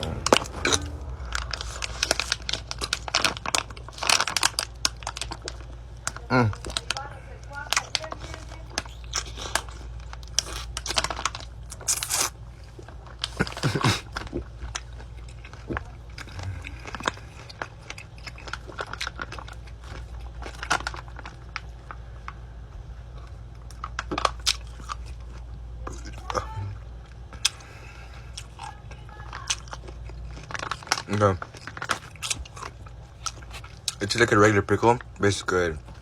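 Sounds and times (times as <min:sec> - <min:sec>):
person chewing crunchy pickle: 0:00.0 - 0:07.0, 0:07.8 - 0:22.4, 0:23.1 - 0:34.2.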